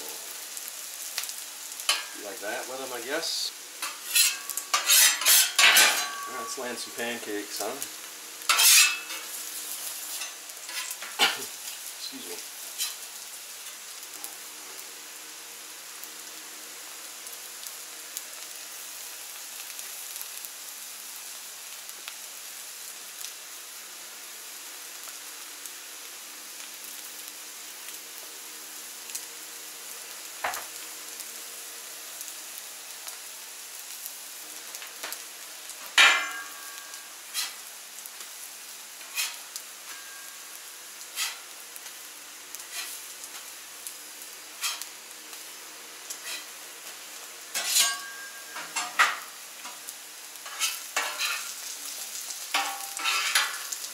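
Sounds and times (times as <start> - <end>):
food sizzling on a griddle: 0.0 - 53.9.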